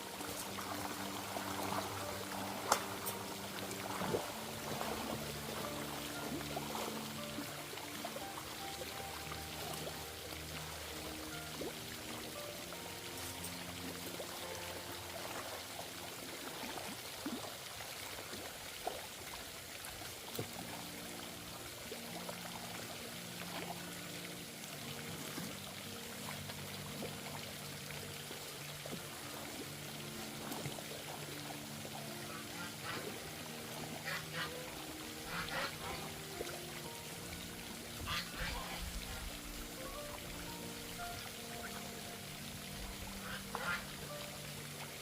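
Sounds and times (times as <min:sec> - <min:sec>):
soft slow background music: 0:00.0 - 0:45.0
water flowing: 0:00.0 - 0:45.0.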